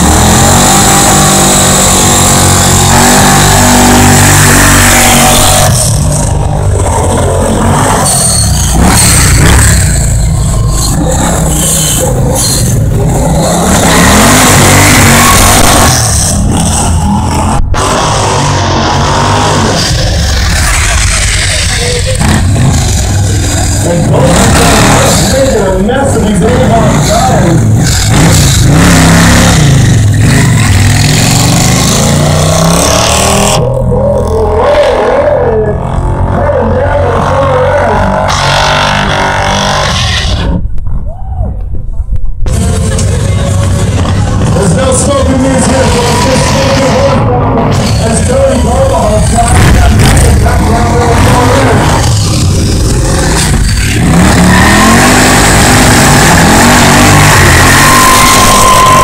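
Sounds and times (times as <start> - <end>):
motorcycle engines revving: 0.0 - 40.6, 42.4 - 59.0.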